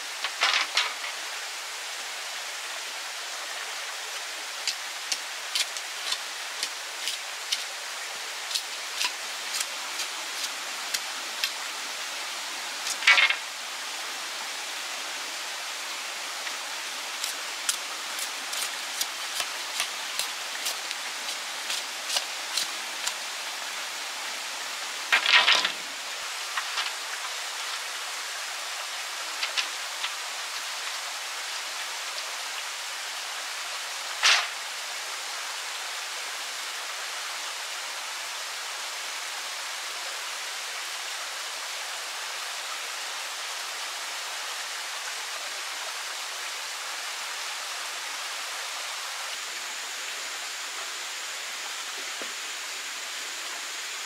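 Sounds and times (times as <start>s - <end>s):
running water hissing: 0.0s - 54.0s.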